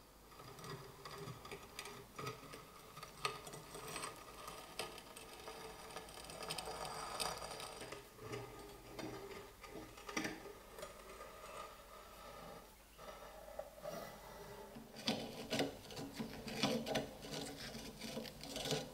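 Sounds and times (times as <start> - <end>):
soft scraping: 0.0 - 18.9.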